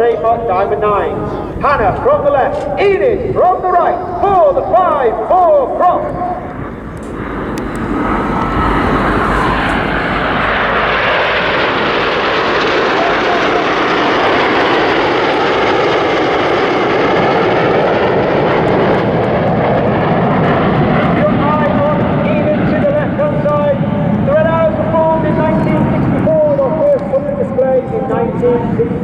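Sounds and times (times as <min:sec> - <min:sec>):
jet roar: 0:00.0 - 0:29.0.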